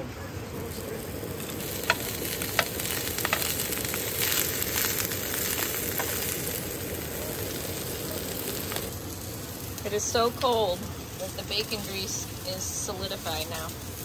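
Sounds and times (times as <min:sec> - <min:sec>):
sausages sizzling in a frying pan: 0:00.6 - 0:14.0.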